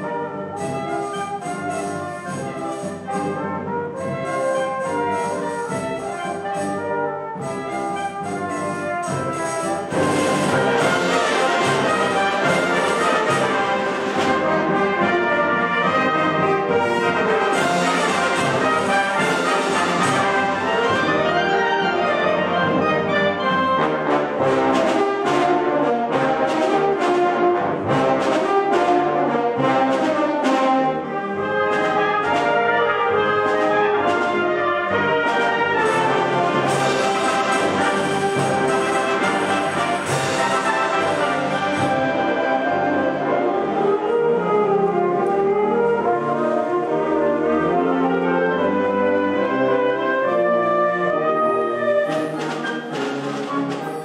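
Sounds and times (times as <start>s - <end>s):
wind band playing dance music: 0.0s - 54.0s.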